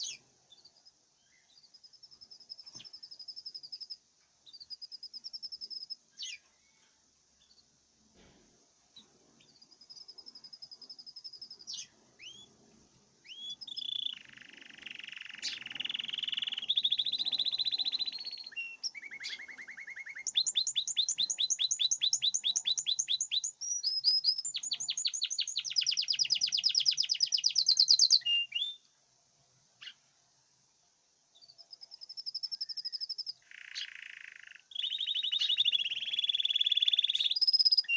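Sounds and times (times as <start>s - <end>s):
songbird singing and trilling: 0.0s - 7.7s, 9.0s - 29.0s, 29.8s - 30.1s, 31.2s - 37.9s.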